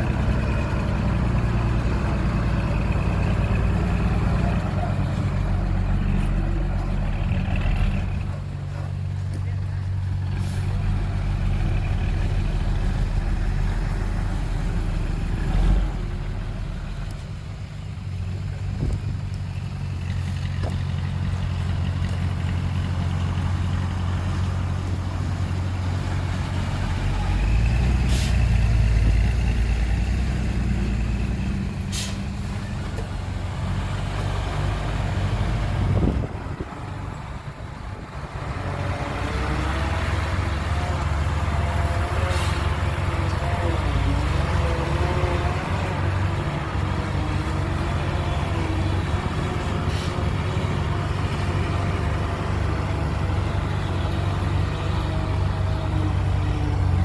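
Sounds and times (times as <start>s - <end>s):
heavy diesel machinery engines: 0.0s - 57.0s.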